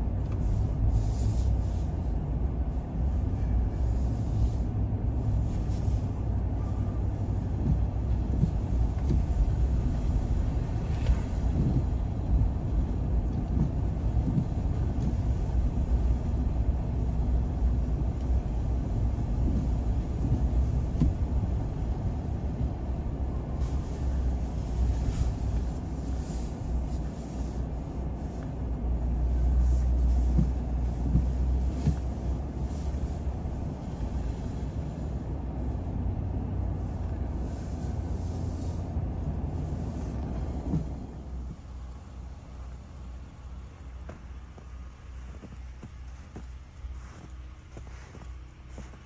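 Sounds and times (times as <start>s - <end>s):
car engine and tyre rumble: 0.0s - 49.0s.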